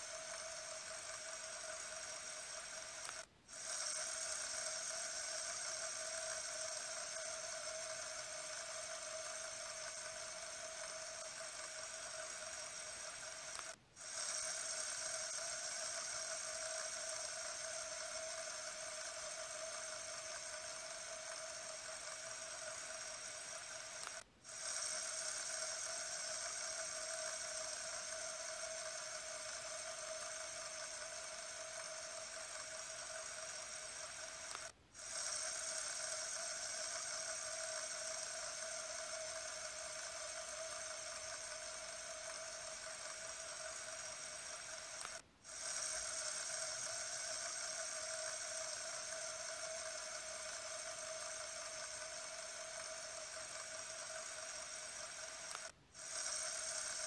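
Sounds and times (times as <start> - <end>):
fidget spinner whirring: 0.0 - 57.0.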